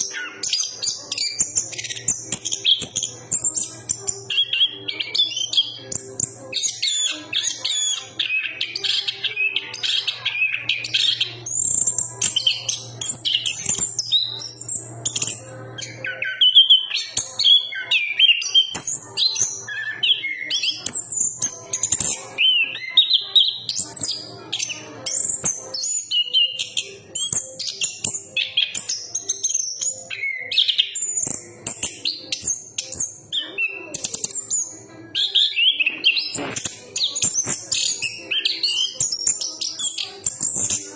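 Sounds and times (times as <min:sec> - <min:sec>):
thrush singing: 0:00.0 - 0:40.9.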